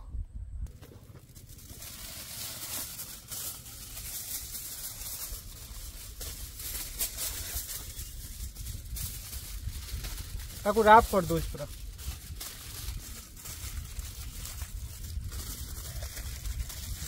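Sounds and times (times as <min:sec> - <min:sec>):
low steady rumble: 0:00.0 - 0:17.0
aluminium foil crinkling: 0:00.7 - 0:17.0.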